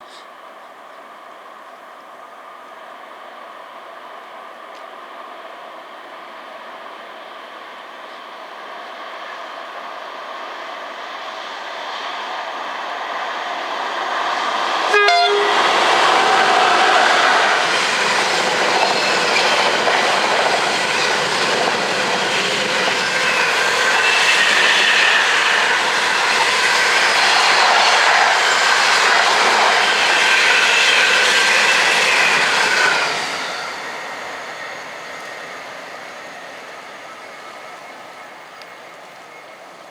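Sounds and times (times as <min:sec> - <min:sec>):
freight train rolling past: 0:00.8 - 0:39.9.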